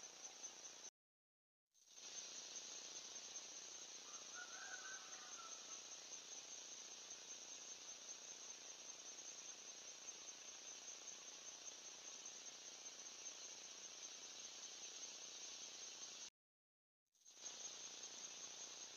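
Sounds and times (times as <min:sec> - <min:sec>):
faint high-pitched hiss: 0:00.0 - 0:00.9, 0:01.8 - 0:16.3, 0:17.2 - 0:18.9.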